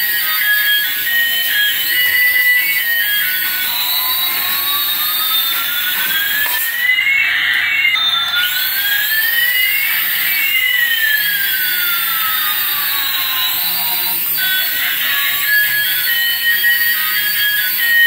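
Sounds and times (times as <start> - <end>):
toy helicopter motors whining: 0.0 - 18.0.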